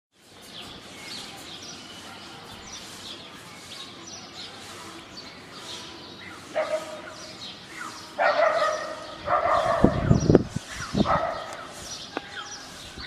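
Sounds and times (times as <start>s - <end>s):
outdoor background hiss: 0.2s - 13.0s
small birds chirping: 0.2s - 13.0s.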